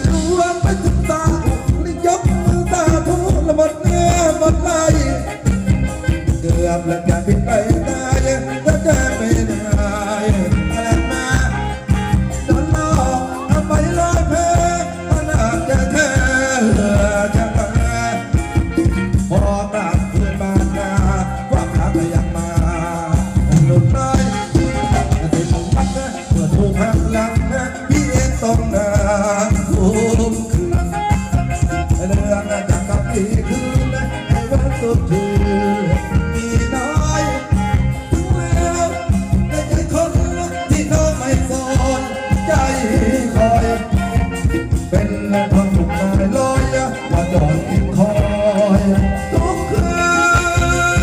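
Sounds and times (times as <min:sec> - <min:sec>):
driving drum beat: 0:00.0 - 0:51.0
person singing: 0:00.0 - 0:51.0.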